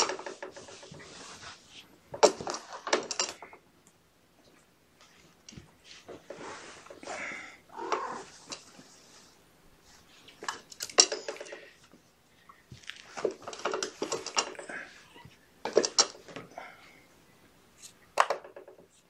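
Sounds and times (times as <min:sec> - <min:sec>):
kittens clattering and rustling: 0:00.0 - 0:03.6, 0:04.5 - 0:16.6, 0:17.8 - 0:19.0.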